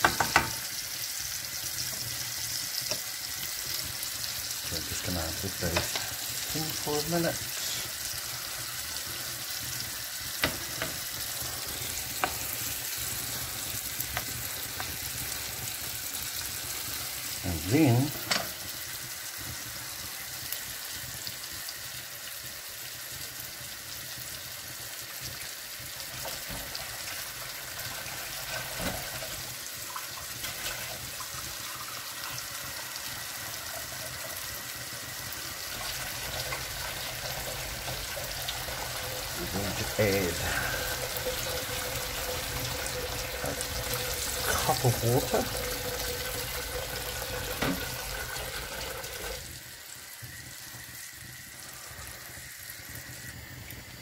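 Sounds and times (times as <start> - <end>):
vegetables sizzling in frying pan: 0.0 - 54.0.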